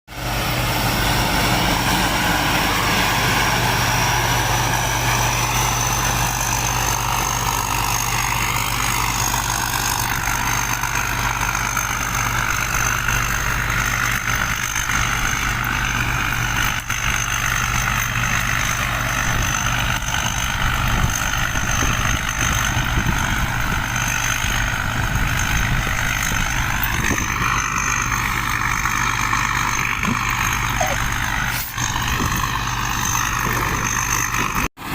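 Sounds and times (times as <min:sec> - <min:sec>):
thin high whine: 0:00.1 - 0:34.7
diesel engine running under load: 0:00.1 - 0:34.9.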